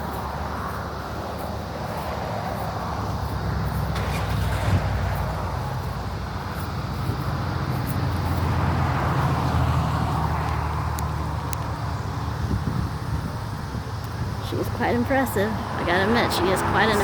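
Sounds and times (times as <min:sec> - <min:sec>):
cars passing on road: 0:00.0 - 0:17.0.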